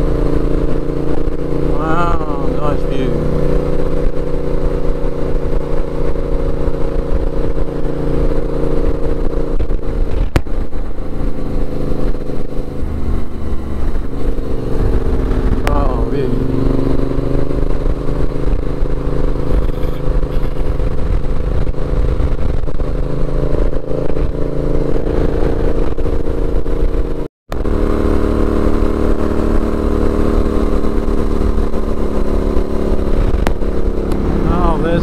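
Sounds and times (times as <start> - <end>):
motorcycle engine running: 0.0 - 35.0
wind rumble on microphone: 3.2 - 35.0.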